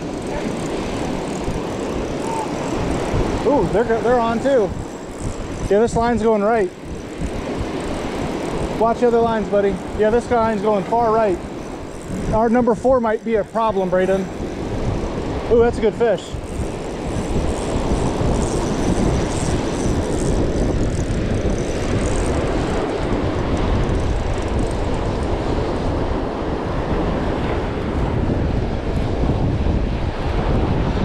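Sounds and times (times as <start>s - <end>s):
breaking surf: 0.0s - 31.0s
wind buffeting microphone: 0.0s - 31.0s.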